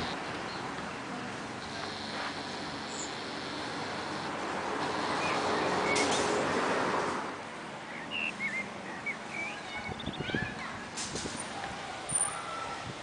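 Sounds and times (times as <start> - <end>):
small birds chirping: 0.0 - 6.6, 7.6 - 11.5
broad rushing noise: 0.0 - 13.0.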